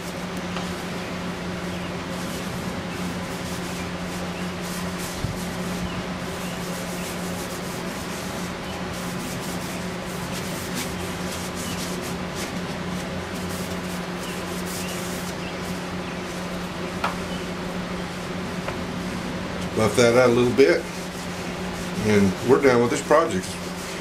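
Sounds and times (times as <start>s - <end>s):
rag rubbing wood: 0.0s - 24.0s
steady low hum: 0.0s - 24.0s.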